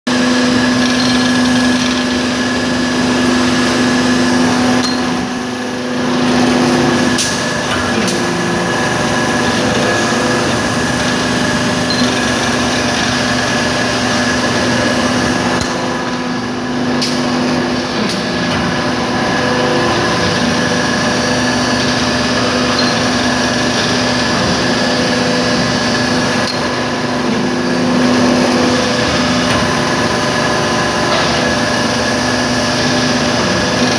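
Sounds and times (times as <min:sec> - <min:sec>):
hydraulic press running: 0:00.1 - 0:33.9.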